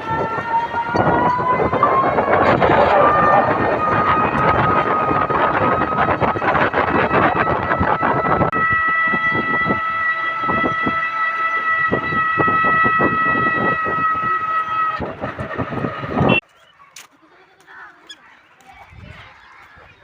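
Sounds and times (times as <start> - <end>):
horn long steady note: 0.0 - 16.4.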